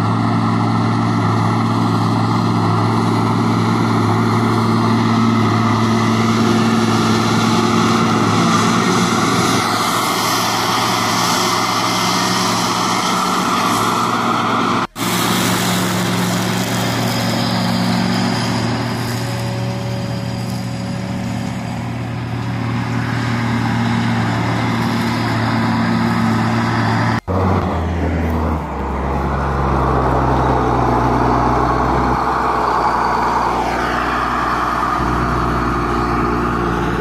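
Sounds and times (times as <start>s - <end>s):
tractor diesel engine running: 0.0s - 37.0s
tractor driving past: 0.0s - 37.0s.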